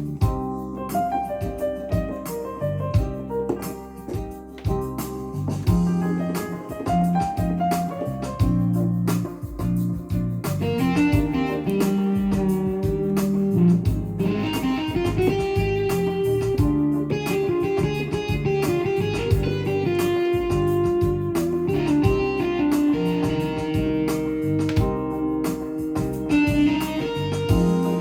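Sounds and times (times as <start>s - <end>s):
steady drum beat: 0.0s - 0.6s, 3.0s - 28.0s
plucked guitar-like keyboard sound: 0.0s - 28.0s.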